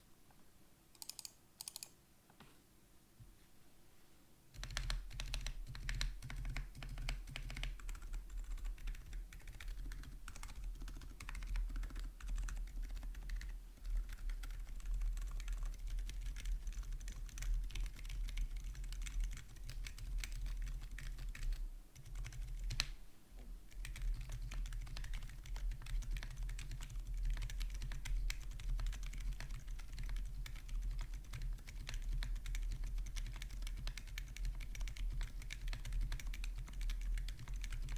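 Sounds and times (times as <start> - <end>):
mechanical keyboard typing: 1.0 - 1.9, 4.6 - 22.9, 23.7 - 37.9.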